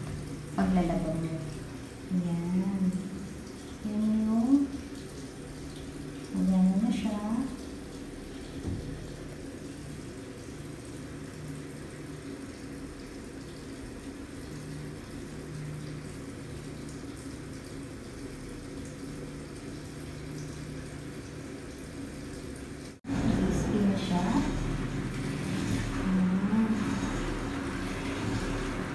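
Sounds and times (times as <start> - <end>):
washing machine low hum: 0.0 - 28.9
water churning and splashing: 0.0 - 28.9.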